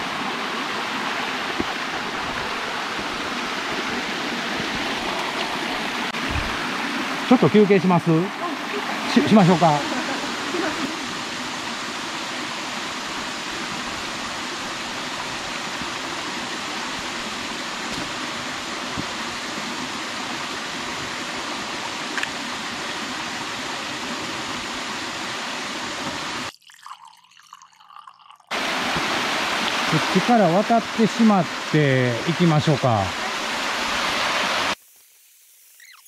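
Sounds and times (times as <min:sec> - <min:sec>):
stream rushing over rocks: 0:00.0 - 0:26.5, 0:28.5 - 0:34.8.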